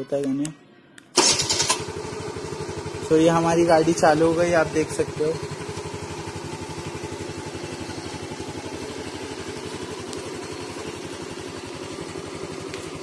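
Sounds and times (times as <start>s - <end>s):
scooter engine idling: 1.2s - 13.0s.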